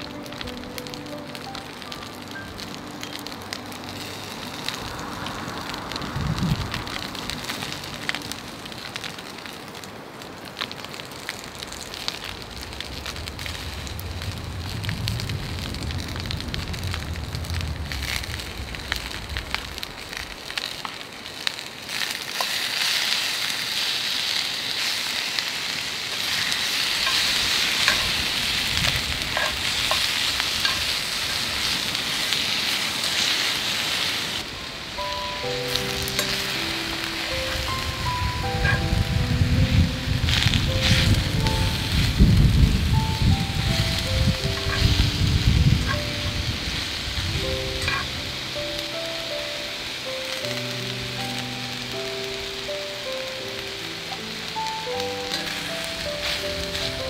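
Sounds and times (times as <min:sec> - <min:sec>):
crackles: 0:00.0 - 0:57.0
meat and cabbage sizzling in a pan: 0:00.0 - 0:57.0.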